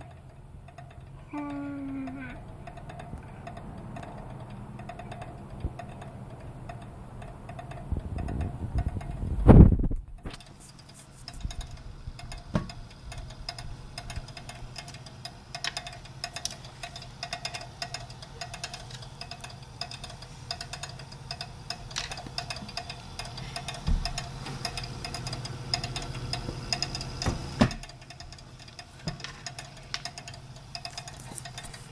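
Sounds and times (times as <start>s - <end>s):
rapid irregular clicking: 0.0s - 31.9s
steady low hum: 0.0s - 31.9s.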